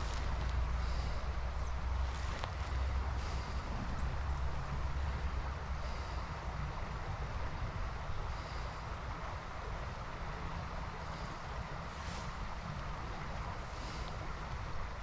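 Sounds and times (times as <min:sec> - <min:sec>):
creek water running: 0:00.0 - 0:15.0
wind on microphone: 0:00.0 - 0:15.0.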